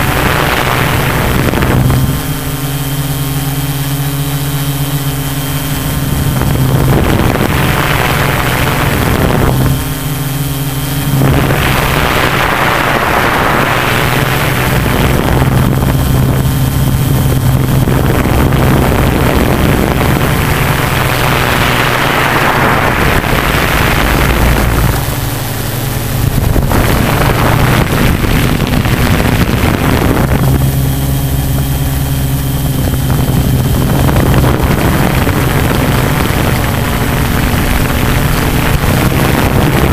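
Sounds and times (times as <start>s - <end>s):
drone motors humming: 0.0s - 39.9s
rushing wind noise: 0.0s - 39.9s.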